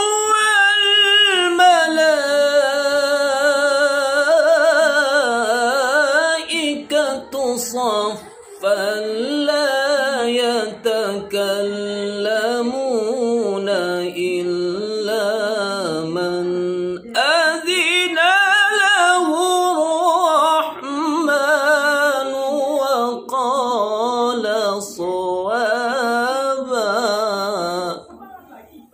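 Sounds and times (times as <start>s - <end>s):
man reciting melodically: 0.0s - 28.2s.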